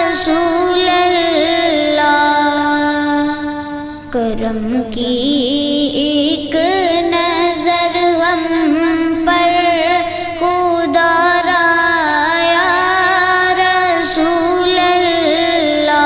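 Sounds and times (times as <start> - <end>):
song with singing voice: 0.0 - 16.0.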